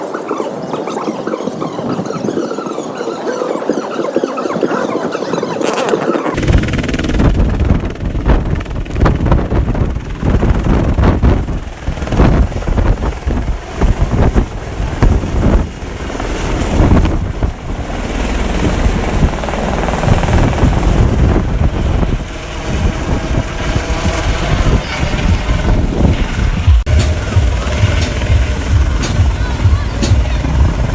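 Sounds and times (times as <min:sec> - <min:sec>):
helicopter turbine and rotor: 0:00.0 - 0:30.9
rotor wash buffeting microphone: 0:00.0 - 0:30.9.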